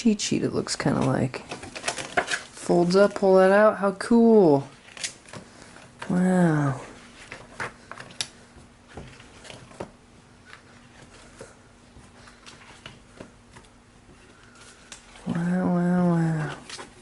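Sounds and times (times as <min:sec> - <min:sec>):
paper and plastic rustling: 0:00.8 - 0:03.4, 0:04.6 - 0:17.0.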